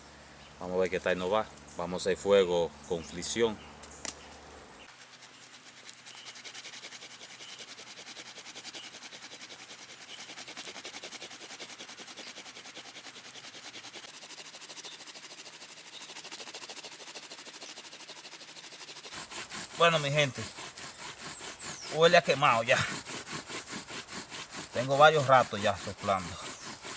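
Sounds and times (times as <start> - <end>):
bamboo scraping against bamboo: 4.3 - 26.9.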